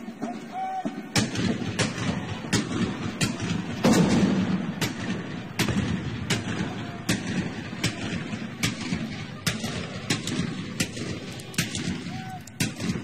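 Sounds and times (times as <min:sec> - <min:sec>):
dense battle din: 0:00.9 - 0:13.0
musket and rifle shots: 0:01.2 - 0:13.0.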